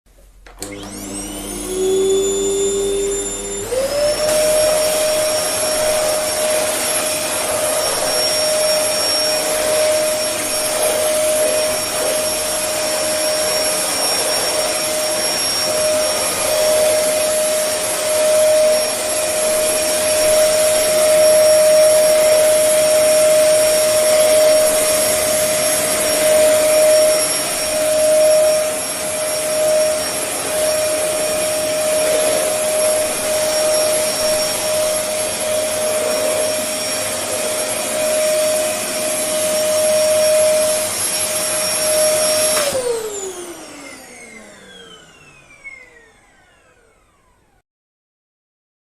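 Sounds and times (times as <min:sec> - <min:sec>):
vacuum cleaner whine: 0:00.2 - 0:47.6.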